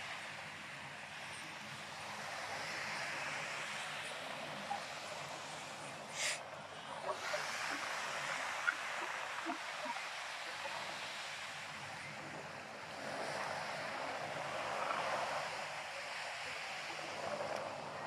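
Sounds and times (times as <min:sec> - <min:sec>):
surf washing up a sandy beach: 0:00.0 - 0:18.0.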